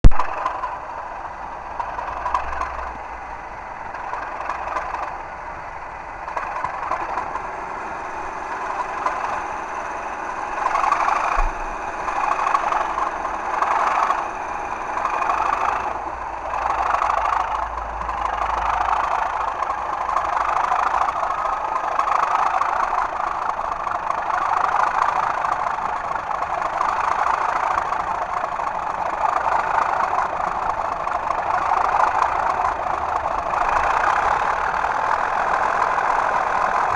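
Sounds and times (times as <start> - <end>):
diesel engine sound through small speakers: 0.0 - 36.9.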